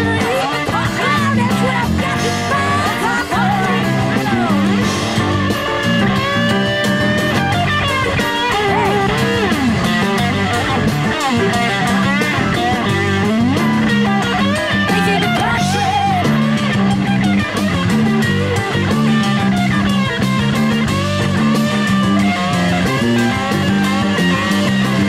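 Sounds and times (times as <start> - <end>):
lead electric guitar bending notes: 0.0 - 25.0
rock band playing: 0.0 - 25.0.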